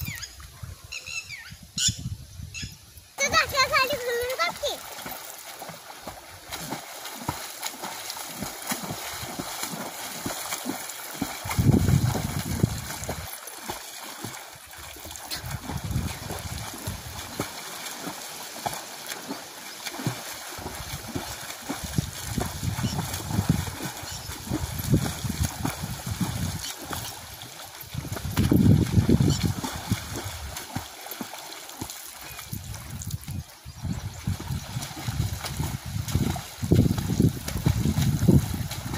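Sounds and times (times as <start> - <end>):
water splashing from swimming: 3.2 - 38.9.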